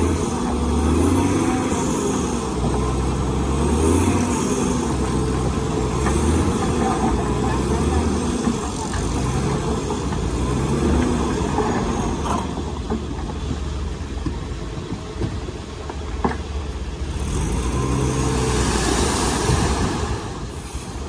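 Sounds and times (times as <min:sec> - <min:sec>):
diesel machinery engine revving: 0:00.0 - 0:14.2, 0:16.5 - 0:21.0.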